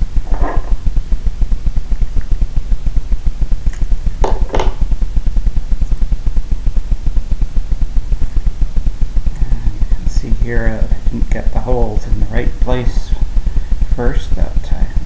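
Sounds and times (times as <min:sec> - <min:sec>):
low throbbing hum: 0:00.0 - 0:15.0.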